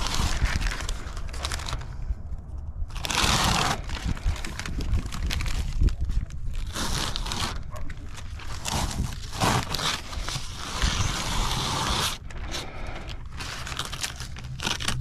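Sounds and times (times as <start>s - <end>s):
plastic film crinkling and ripping: 0.0s - 2.1s, 2.9s - 15.0s.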